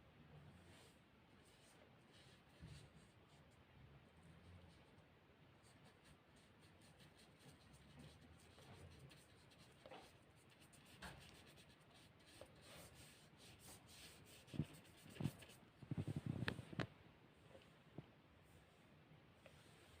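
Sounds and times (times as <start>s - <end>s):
paintbrush strokes on paper: 0.5s - 16.7s, 18.4s - 20.0s.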